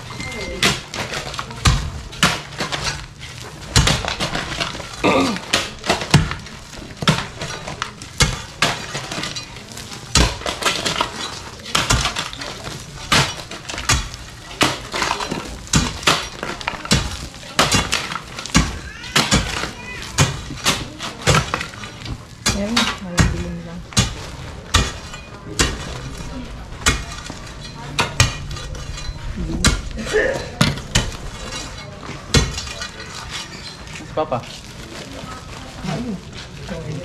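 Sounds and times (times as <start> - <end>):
crunching breaking sounds: 0.0 - 22.8, 23.8 - 37.0.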